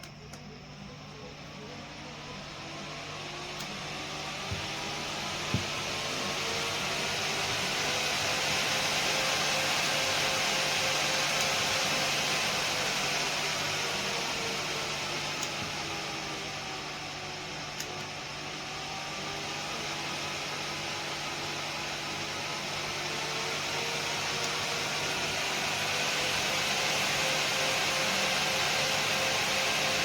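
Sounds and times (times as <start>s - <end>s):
small electric fan whirring: 0.0s - 30.0s.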